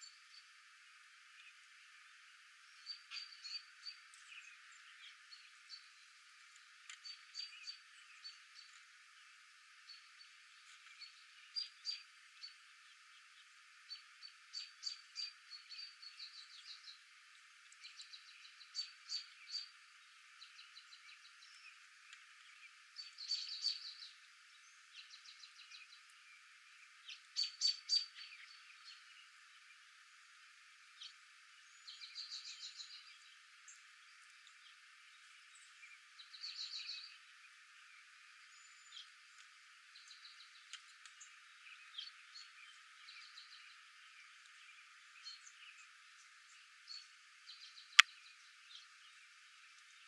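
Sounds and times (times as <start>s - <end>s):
faint steady hiss: 0.0s - 50.0s
small birds chirping: 0.0s - 50.0s.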